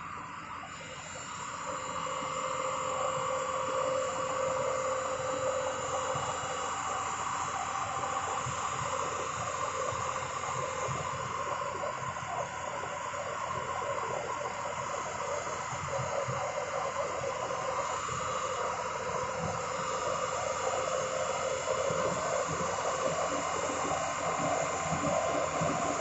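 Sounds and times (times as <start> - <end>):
constant engine whine: 0.0 - 26.0
excavator diesel engine running: 0.0 - 26.0.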